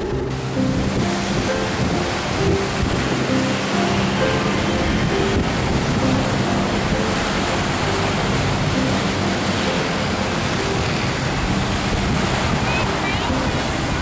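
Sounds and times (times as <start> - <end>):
sea surf breaking on seawall: 0.0 - 14.0
wind buffeting microphone: 0.0 - 14.0.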